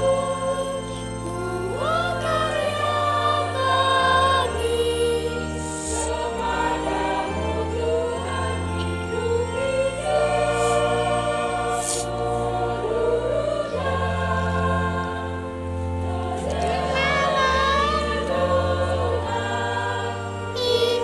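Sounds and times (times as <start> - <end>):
choir singing a hymn: 0.0 - 21.0
electronic organ: 0.0 - 21.0.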